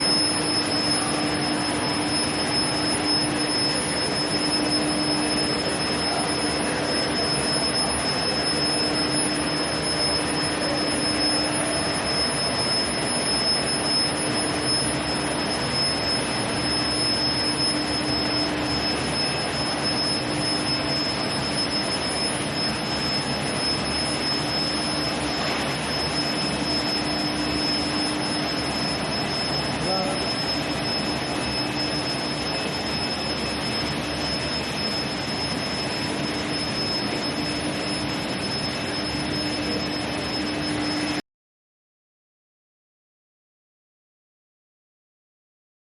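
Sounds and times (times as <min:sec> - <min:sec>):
high-pitched machine whine: 0:00.0 - 0:41.2.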